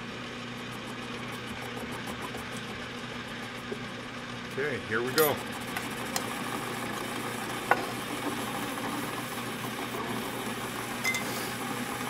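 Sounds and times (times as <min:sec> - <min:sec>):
metal lathe motor running: 0:00.0 - 0:12.0.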